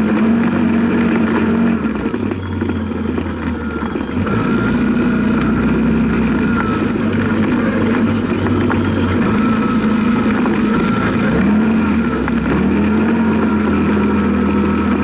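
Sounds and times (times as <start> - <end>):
high-pitched whine: 0.0 - 15.0
utility vehicle engine running: 0.0 - 15.0
vehicle knocking over bumps: 0.0 - 15.0.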